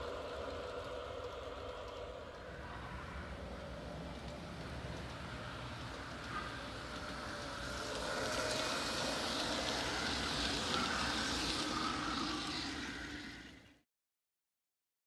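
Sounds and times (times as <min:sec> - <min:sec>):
faint steady tones: 0:00.0 - 0:13.7
model train rolling on track: 0:00.0 - 0:13.8.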